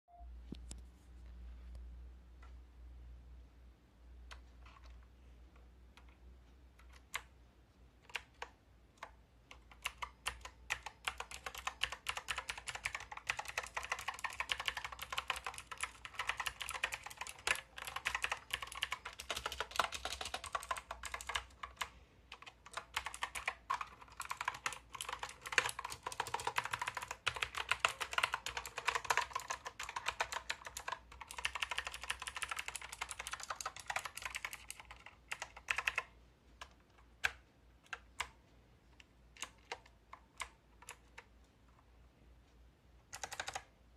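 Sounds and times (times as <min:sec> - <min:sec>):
mechanical keyboard typing: 0:04.2 - 0:07.4, 0:08.0 - 0:41.3, 0:43.0 - 0:43.7.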